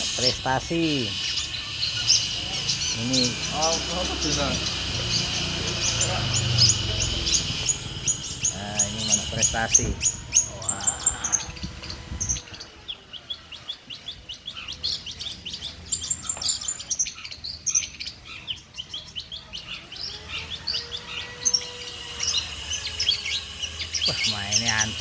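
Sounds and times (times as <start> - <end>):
bird chirping and whistling: 0.0 - 12.8, 14.0 - 25.0.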